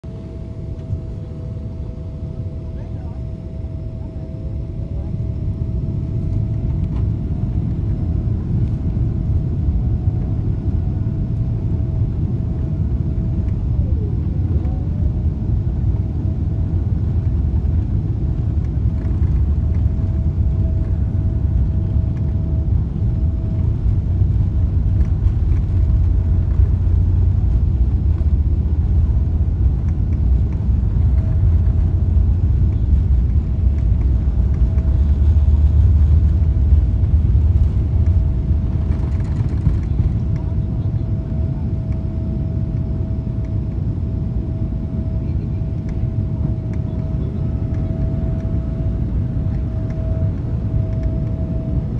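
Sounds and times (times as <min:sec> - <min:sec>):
airplane engines and wheels rumbling: 0:00.0 - 0:51.9
faint steady whine: 0:00.1 - 0:51.9.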